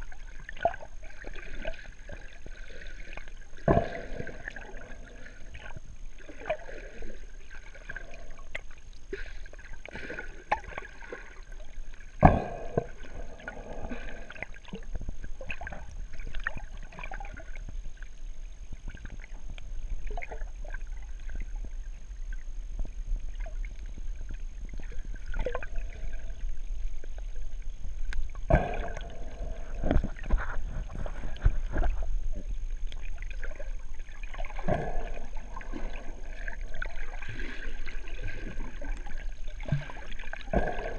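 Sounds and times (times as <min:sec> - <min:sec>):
underwater bubbling and gurgling: 0:00.0 - 0:40.9.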